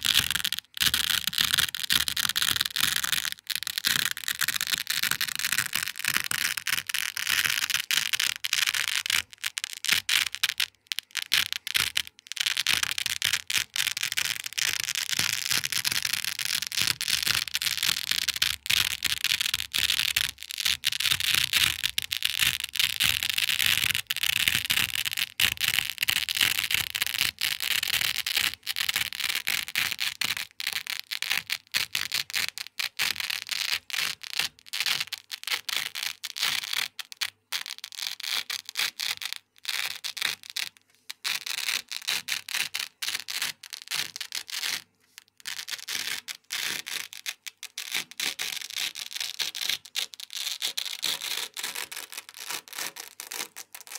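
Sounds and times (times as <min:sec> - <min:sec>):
velcro tearing crackle: 0:00.0 - 0:53.9.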